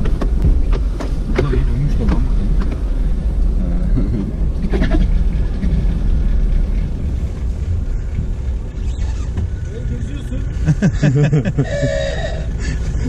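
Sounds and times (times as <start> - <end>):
engine rumble inside cab: 0.0 - 13.0.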